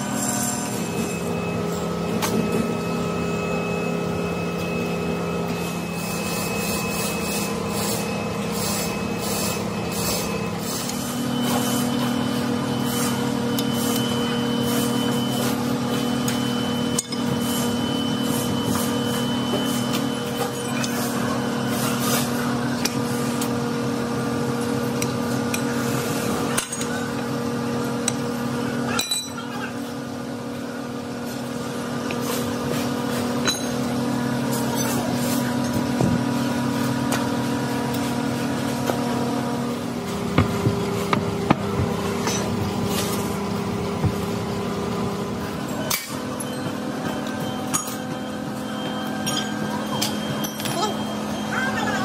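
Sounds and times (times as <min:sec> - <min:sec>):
metalworking machinery humming: 0:00.0 - 0:52.0.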